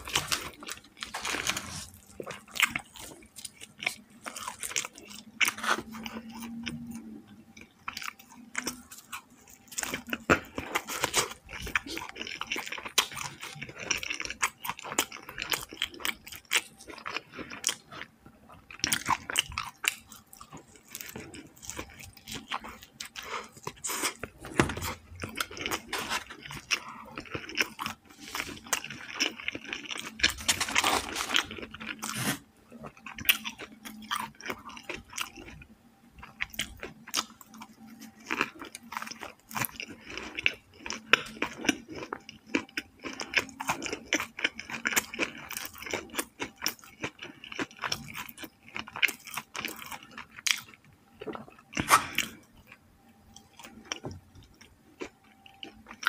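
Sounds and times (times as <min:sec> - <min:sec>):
chewing crunchy bread roll: 0:00.0 - 0:56.0.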